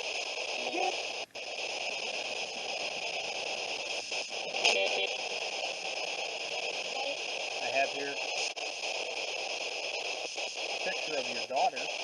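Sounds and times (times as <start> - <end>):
faint radio clicks: 0.0 - 12.0
fragment of broadcast sound: 0.0 - 12.0
radio static hiss: 0.0 - 12.0.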